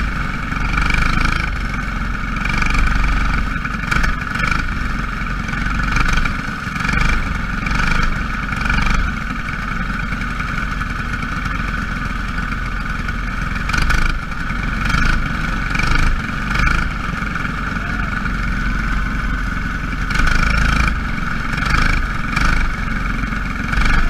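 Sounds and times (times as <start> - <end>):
small racing engines droning: 0.0 - 24.0.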